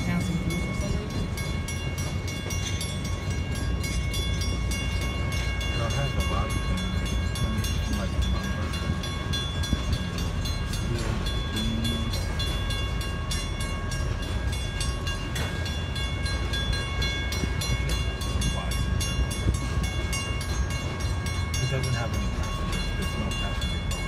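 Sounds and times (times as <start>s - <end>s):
crossing signal ringing: 0.0s - 24.0s
train wheels clicking: 0.0s - 24.0s.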